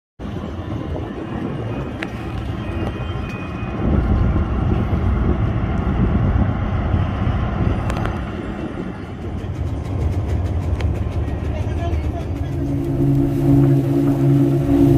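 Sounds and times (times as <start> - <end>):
boat engine rumbling: 0.2 - 14.9.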